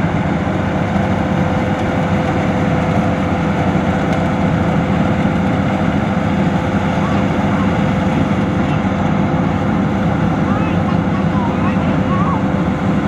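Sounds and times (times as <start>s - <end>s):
combine harvester engine running: 0.0s - 13.0s
steady machine whine: 0.0s - 13.0s.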